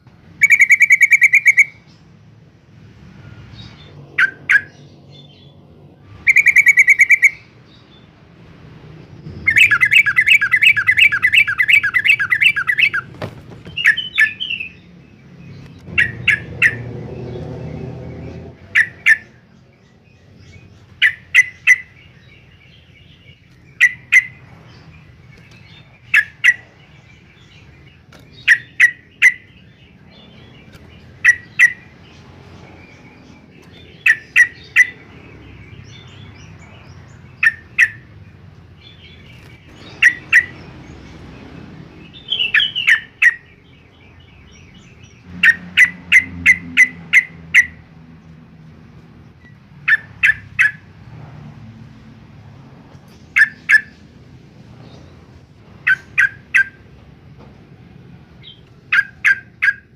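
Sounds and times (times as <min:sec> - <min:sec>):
bird trilling and chirping: 0:00.2 - 0:02.2, 0:02.8 - 0:51.3, 0:52.0 - 0:57.2, 0:58.0 - 0:59.9.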